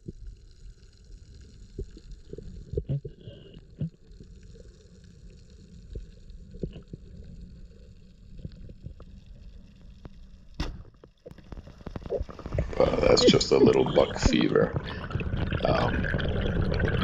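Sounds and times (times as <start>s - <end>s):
underwater low rumble: 0.0s - 17.0s.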